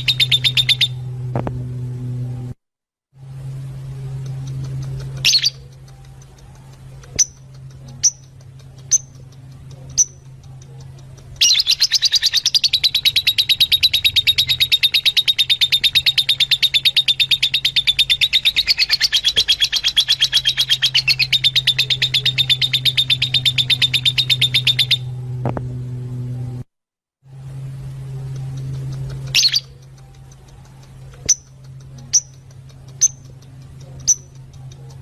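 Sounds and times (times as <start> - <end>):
lovebirds chattering: 0.0 - 1.0, 4.2 - 25.1, 28.3 - 35.0
steady low hum: 0.0 - 2.6, 3.2 - 35.0.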